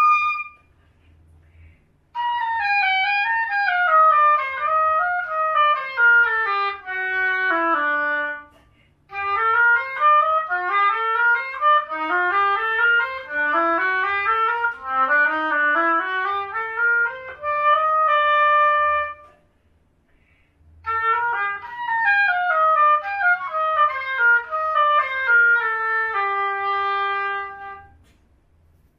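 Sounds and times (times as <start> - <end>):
solo oboe: 0.0 - 0.7, 2.2 - 19.4, 20.8 - 28.2.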